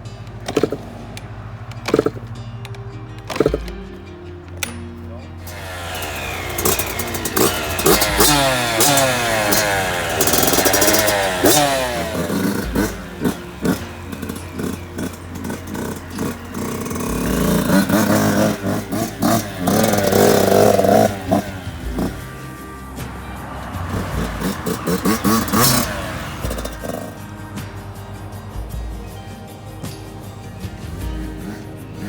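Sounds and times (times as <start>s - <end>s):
dirt bike engine revving: 0.0s - 2.6s, 3.3s - 3.9s, 5.4s - 32.0s.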